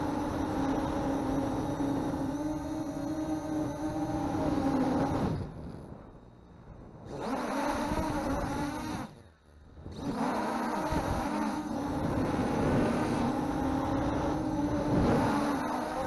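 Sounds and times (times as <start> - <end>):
quadcopter propellers whining: 0.0 - 5.9, 7.0 - 9.2, 9.9 - 16.0.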